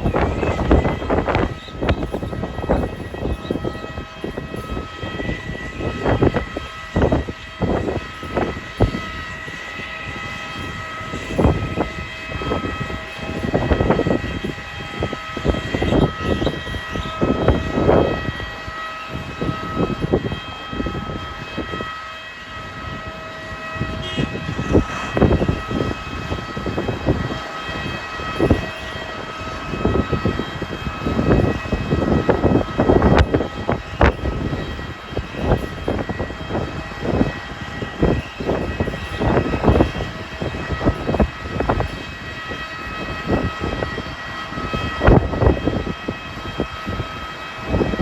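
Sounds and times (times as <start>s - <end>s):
high machinery whine: 0.0s - 48.0s
wind buffeting microphone: 0.0s - 48.0s.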